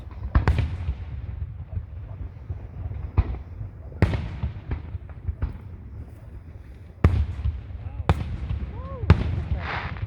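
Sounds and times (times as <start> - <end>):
firework bangs with crackle: 0.0 - 10.0.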